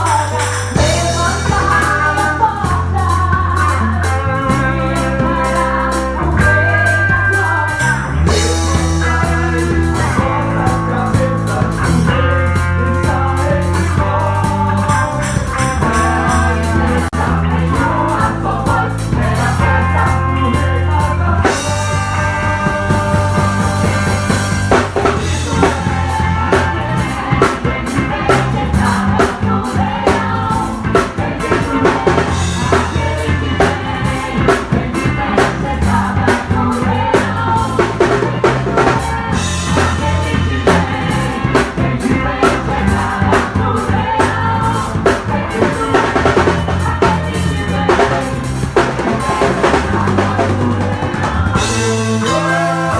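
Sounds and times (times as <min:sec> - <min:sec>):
gospel song with drums and bass: 0:00.0 - 0:52.9.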